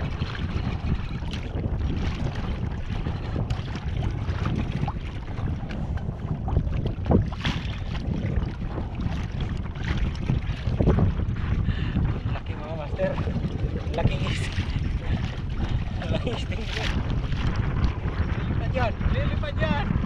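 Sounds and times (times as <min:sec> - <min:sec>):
water slapping against hull: 0:00.0 - 0:20.0
wind buffeting microphone: 0:00.0 - 0:20.0.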